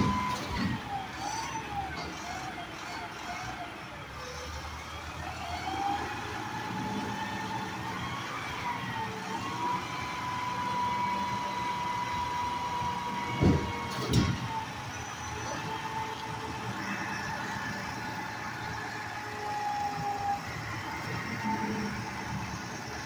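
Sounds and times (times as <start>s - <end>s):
garbage truck hydraulics whining: 0.0s - 23.0s
truck engine rumble: 0.0s - 23.0s.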